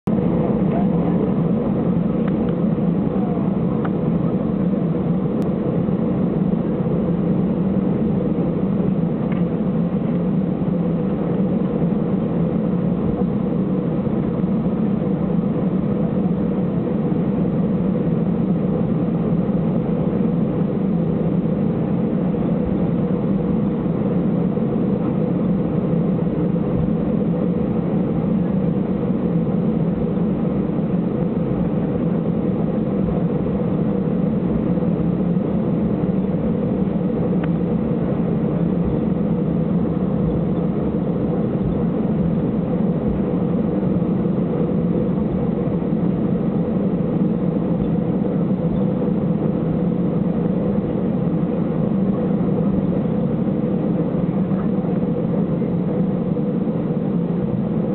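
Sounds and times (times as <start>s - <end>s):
jet engines droning: 0.0s - 57.9s.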